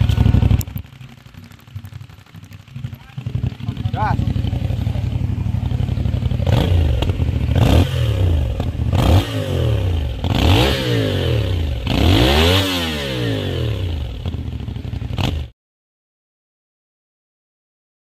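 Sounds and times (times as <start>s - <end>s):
motorcycle engine idling: 0.0s - 15.5s
motorcycle engine revving: 0.0s - 15.5s.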